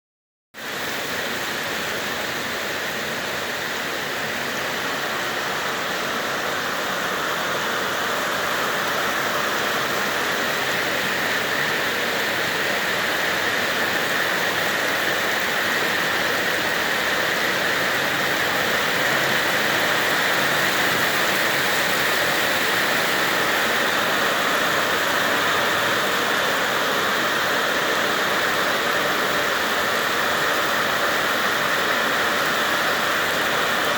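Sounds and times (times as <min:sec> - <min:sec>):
rain falling: 0:00.6 - 0:33.9.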